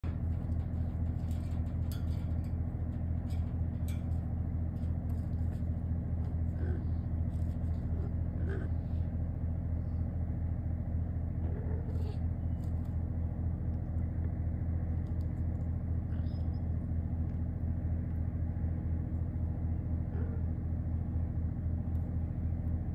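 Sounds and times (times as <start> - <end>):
low machine hum: 0.0 - 22.9.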